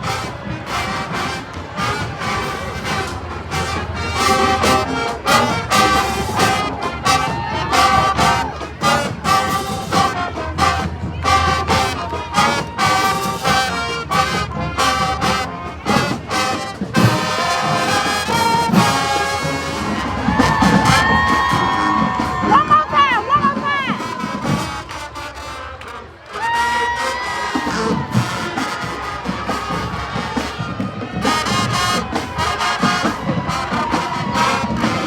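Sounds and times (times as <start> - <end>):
marching drums beat: 0.0 - 25.7, 27.0 - 35.0
trumpets and trombones: 0.0 - 35.0.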